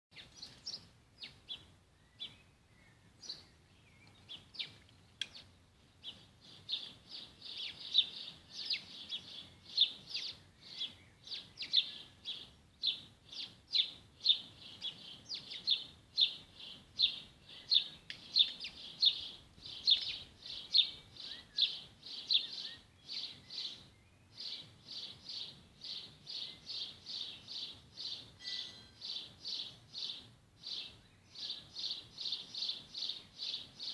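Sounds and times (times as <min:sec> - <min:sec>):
bird chirping: 0:00.1 - 0:33.9.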